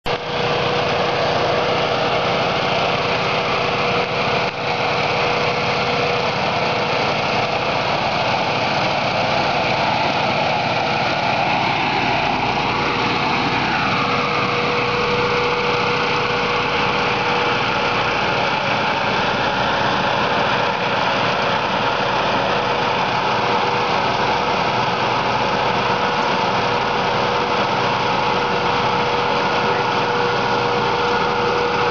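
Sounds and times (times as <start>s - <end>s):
sprayer engine drone: 0.0s - 31.9s
rushing blast of air: 0.1s - 31.9s
steady hum: 0.1s - 31.9s.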